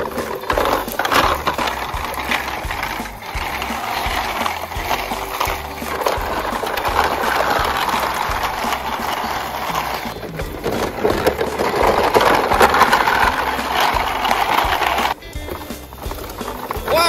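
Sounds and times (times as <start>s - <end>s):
toy cars rolling over dirt: 0.0s - 17.0s.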